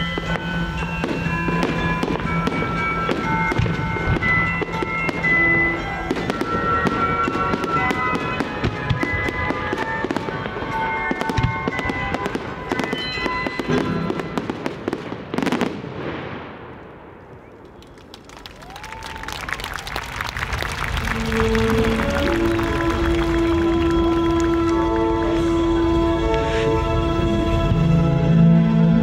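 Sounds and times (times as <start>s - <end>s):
music: 0.0s - 15.0s, 20.3s - 29.0s
fireworks bangs and crackling: 0.0s - 27.9s.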